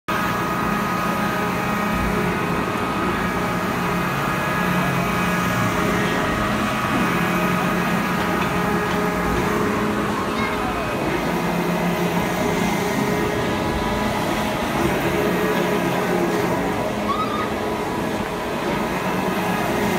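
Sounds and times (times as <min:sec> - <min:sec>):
machinery hum: 0:00.1 - 0:19.9.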